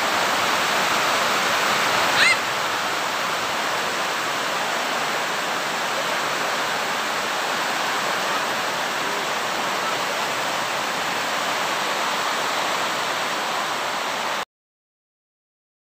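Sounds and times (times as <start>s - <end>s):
heavy rain pouring: 0.0s - 14.4s.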